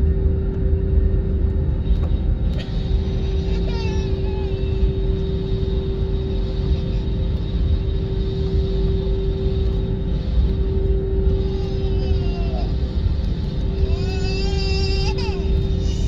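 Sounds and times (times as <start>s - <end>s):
steady hum: 0.0s - 16.0s
jet engines roaring: 0.6s - 16.0s.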